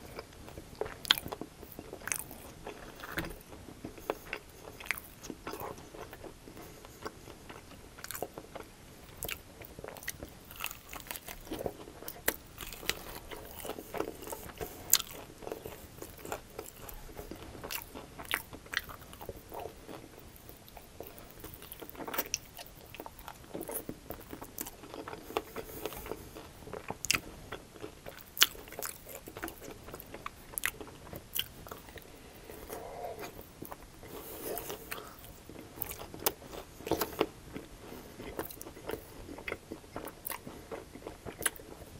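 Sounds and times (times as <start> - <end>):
chewing: 0.0 - 41.9.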